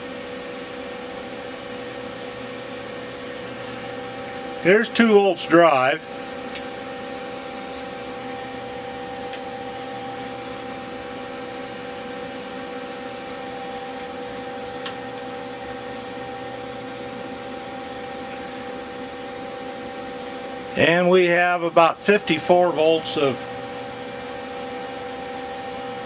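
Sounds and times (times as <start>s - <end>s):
cooling fan humming: 0.0s - 26.0s.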